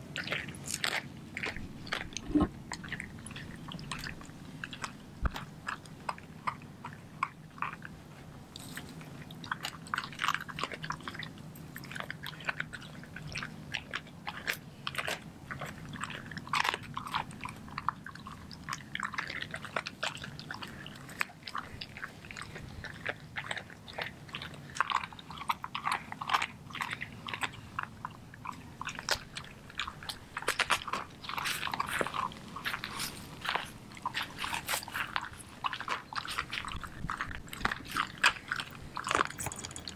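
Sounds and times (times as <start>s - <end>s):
dog chewing and crunching bones: 0.0s - 39.9s.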